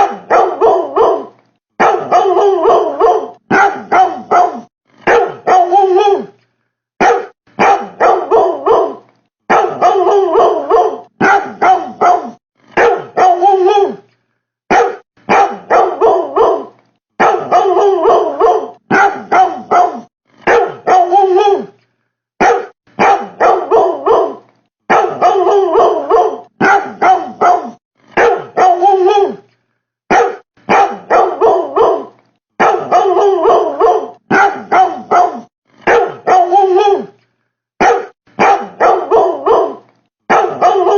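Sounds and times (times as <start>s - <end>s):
dog-like barking: 0.0s - 6.3s, 7.0s - 14.0s, 14.7s - 21.7s, 22.4s - 29.4s, 30.1s - 37.1s, 37.8s - 40.9s.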